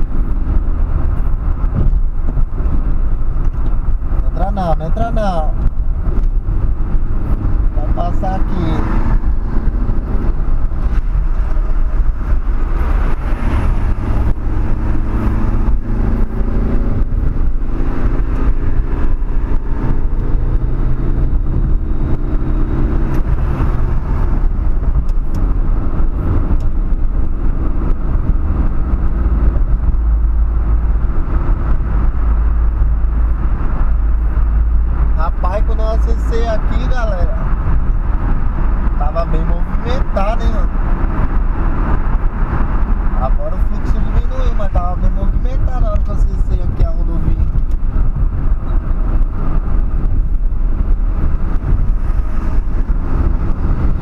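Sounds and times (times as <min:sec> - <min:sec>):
car engine hum: 0:00.0 - 0:54.0
tyre road noise: 0:00.0 - 0:54.0.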